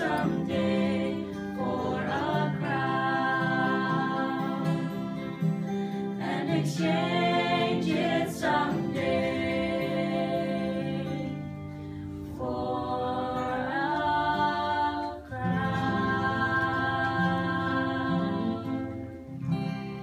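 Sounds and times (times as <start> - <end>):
vocal group singing in harmony: 0.0 - 19.3.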